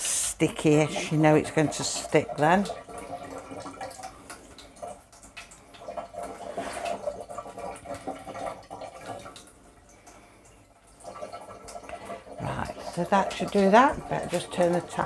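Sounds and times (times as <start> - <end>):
tap water running: 0.0 - 15.0.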